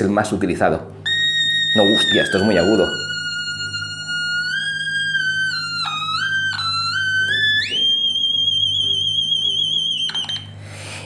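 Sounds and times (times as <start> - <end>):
very high swooping electronic tone: 1.0 - 10.5.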